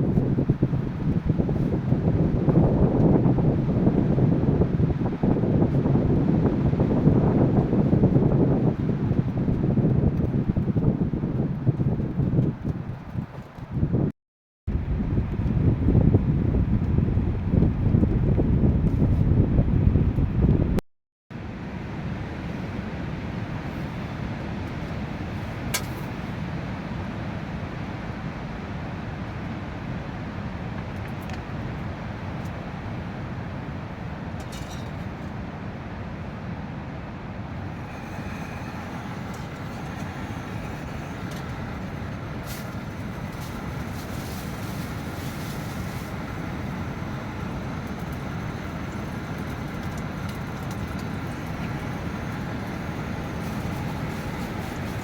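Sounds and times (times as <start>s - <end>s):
strong wind blowing: 0.0s - 14.1s, 14.7s - 20.8s, 21.4s - 55.0s.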